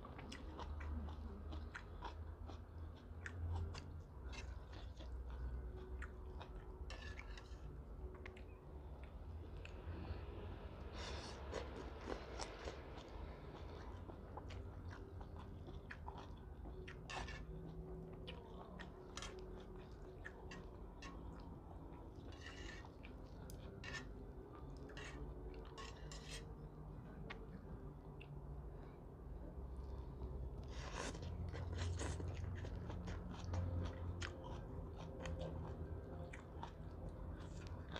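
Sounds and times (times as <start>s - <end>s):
person chewing and slurping noodles: 0.0s - 27.4s, 29.6s - 37.9s.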